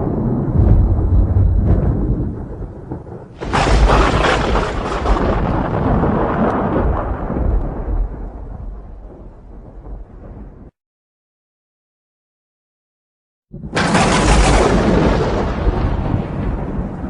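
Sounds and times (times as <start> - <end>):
sharp loud thunderclap: 0.0 - 10.7, 13.5 - 17.0
thunder rumbling: 0.0 - 10.7, 13.5 - 17.0.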